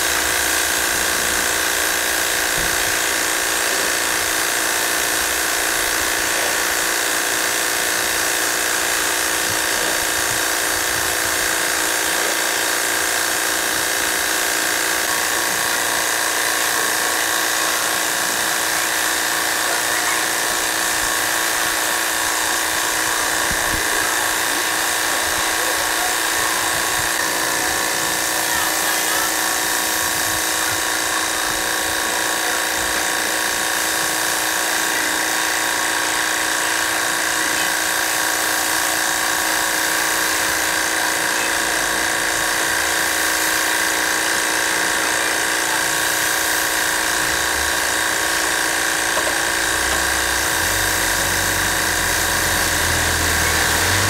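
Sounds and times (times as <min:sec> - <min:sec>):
spray wand hissing water: 0:00.0 - 0:54.0
washer pump whining: 0:00.0 - 0:54.0.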